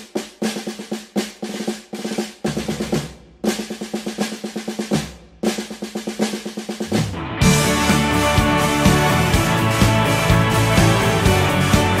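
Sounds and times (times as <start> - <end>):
snare drum rolls: 0.0 - 12.0.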